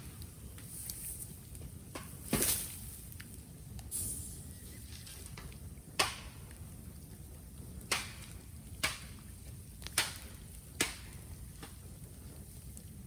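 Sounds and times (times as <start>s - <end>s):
bamboo bonfire cracks: 0.0s - 13.0s.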